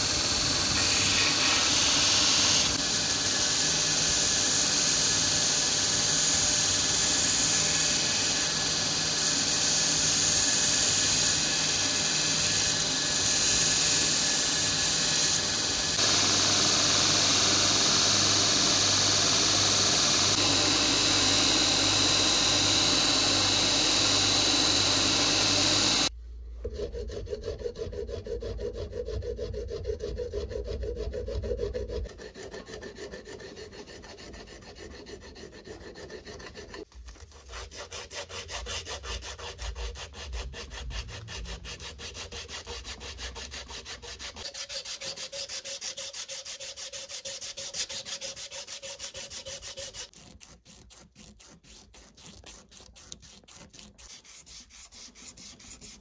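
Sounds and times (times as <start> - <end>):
belt grinder sanding wood: 0.0 - 26.1, 26.7 - 56.0
hand file rasping: 4.0 - 56.0.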